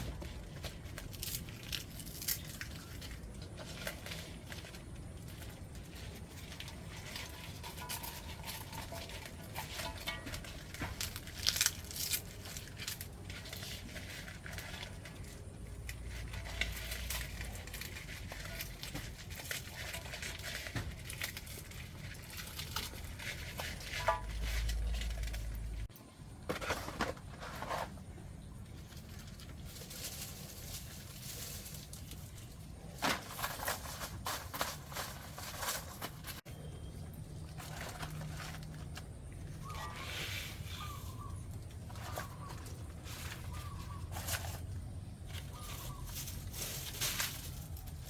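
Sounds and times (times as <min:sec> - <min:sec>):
crinkling handling noise: 0:00.0 - 0:48.0.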